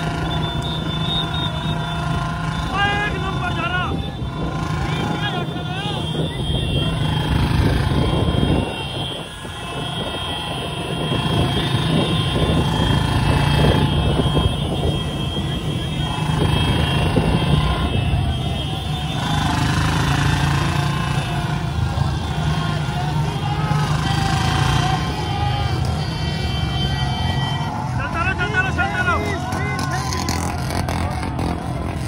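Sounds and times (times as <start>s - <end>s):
many motorcycle engines droning: 0.0s - 32.0s.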